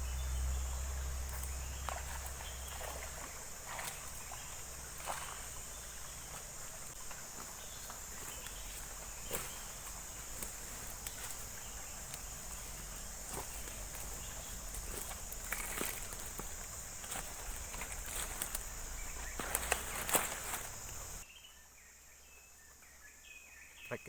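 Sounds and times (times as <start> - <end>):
high-pitched insect drone: 0.0 - 21.2.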